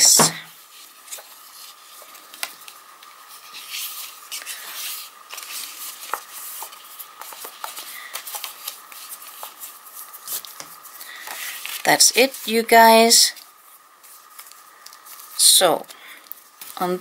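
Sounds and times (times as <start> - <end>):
faint high hum: 0.0 - 17.0
paper rustling: 0.0 - 17.0.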